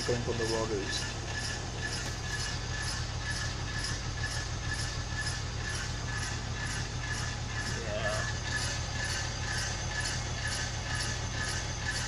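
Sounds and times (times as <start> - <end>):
low drivetrain hum: 0.0 - 12.0
wheel grinding rhythmically: 0.0 - 12.0.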